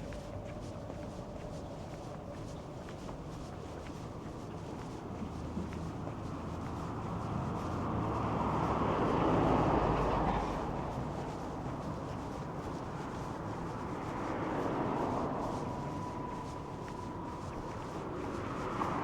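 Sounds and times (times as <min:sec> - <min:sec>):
steady low hum: 0:00.0 - 0:19.0
vehicle passing: 0:00.0 - 0:19.0.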